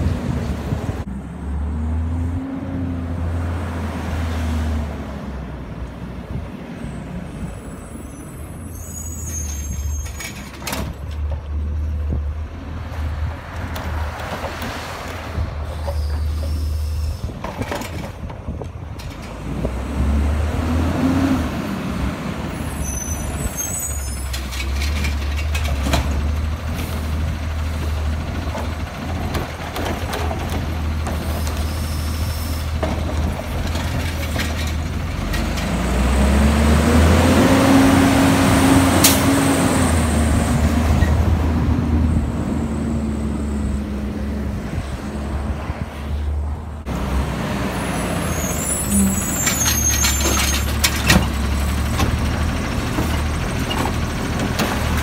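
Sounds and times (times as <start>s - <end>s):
garbage truck diesel engine: 0.0s - 45.6s, 46.3s - 55.0s.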